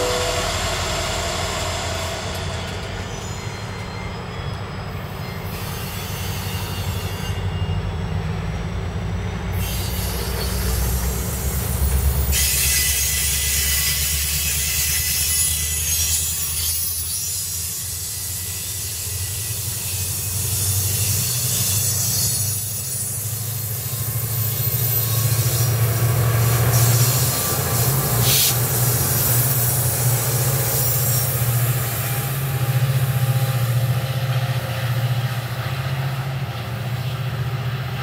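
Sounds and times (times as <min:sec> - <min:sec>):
high squeal: 0:00.0 - 0:08.4, 0:09.2 - 0:33.8
diesel locomotive engines rumbling: 0:00.0 - 0:38.0
train wheels rolling on rails: 0:00.0 - 0:38.0.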